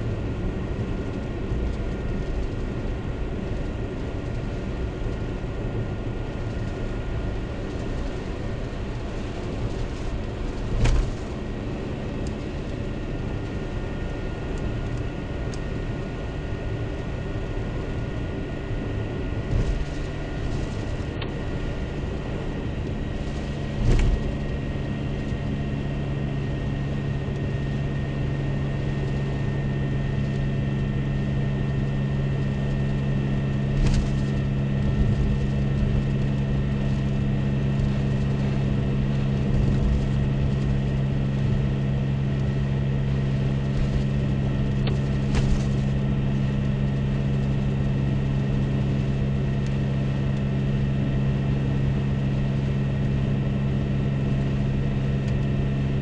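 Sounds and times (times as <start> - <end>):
car engine drone: 0.0 - 56.0
low hum: 0.0 - 56.0.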